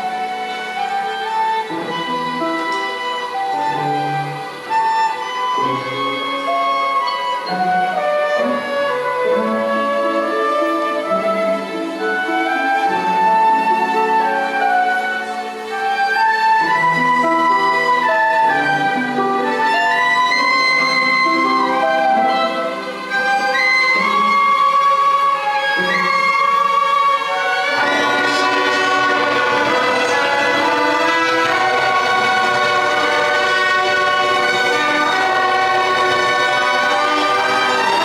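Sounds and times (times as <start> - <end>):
orchestra playing classical piece: 0.0 - 38.0.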